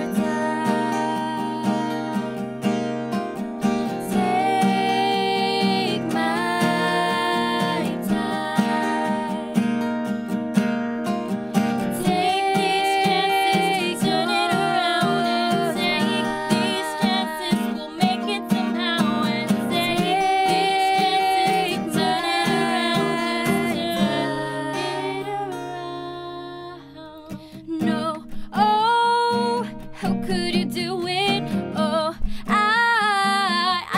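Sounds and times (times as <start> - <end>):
woman singing: 0.0 - 2.8, 3.7 - 9.9, 11.8 - 33.9
acoustic guitars strumming: 0.0 - 33.9.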